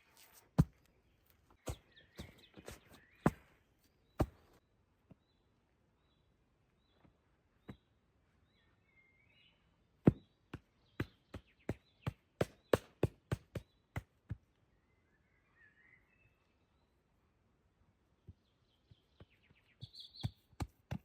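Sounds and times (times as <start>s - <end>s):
birds chirping: 0.7s - 17.2s, 18.1s - 21.0s.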